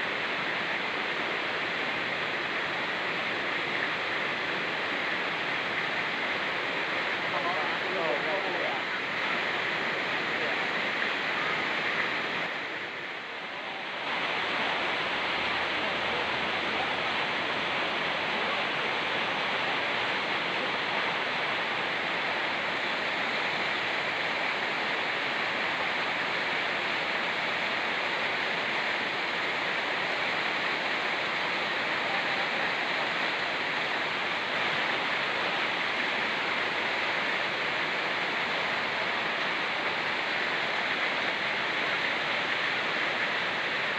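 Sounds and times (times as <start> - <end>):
fast-flowing mountain stream: 0.0 - 43.9
rain falling: 0.0 - 43.9.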